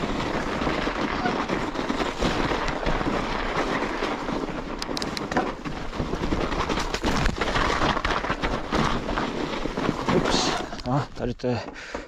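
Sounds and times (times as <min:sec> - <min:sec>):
bike clicks and rattles: 0:00.0 - 0:12.0.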